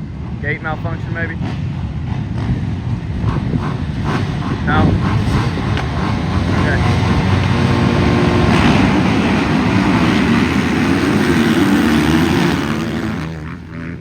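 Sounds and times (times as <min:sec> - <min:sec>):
motocross bikes racing: 0:00.0 - 0:14.0.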